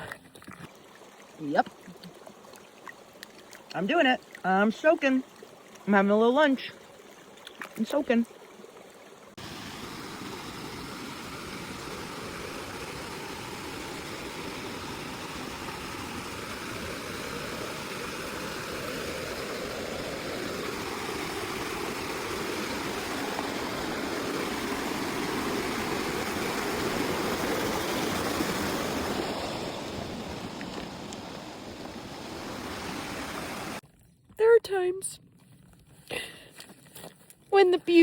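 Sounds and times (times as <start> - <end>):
stream water rushing: 0.0 - 33.8.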